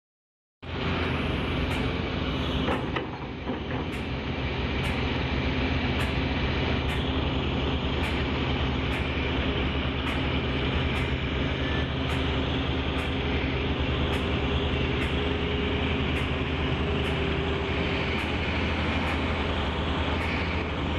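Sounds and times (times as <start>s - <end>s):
excavator diesel engine running: 0.6s - 20.9s.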